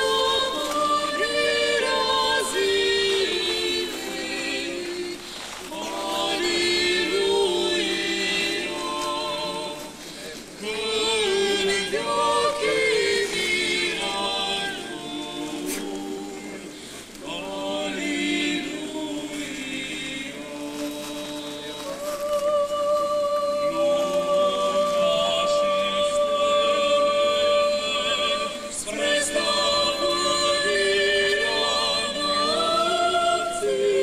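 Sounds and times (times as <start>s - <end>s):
unaccompanied choir singing a hymn: 0.0s - 34.0s.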